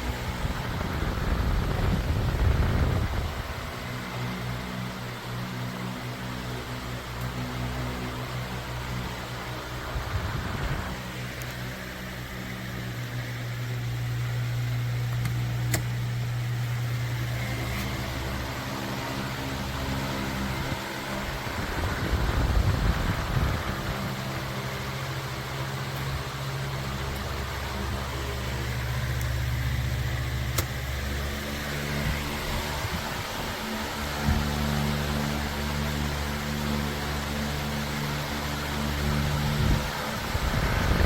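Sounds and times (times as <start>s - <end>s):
electric fan motor humming: 0.0s - 41.0s.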